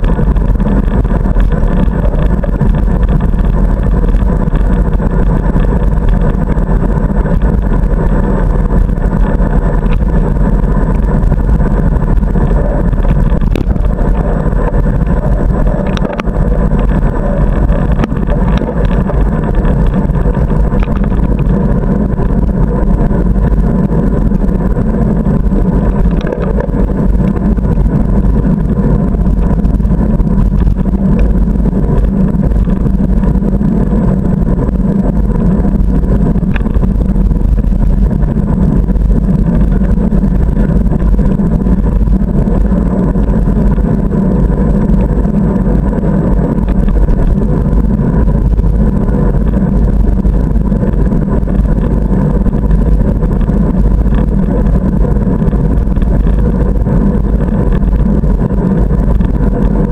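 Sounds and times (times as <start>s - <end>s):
bicycle road rumble: 0.0s - 59.9s
wind rush on microphone: 0.0s - 59.9s.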